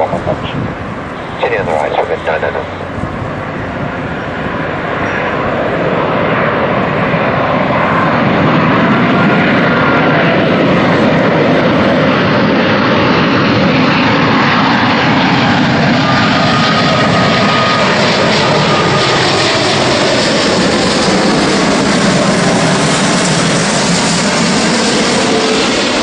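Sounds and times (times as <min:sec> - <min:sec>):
jet airliner engine noise: 0:00.0 - 0:26.0.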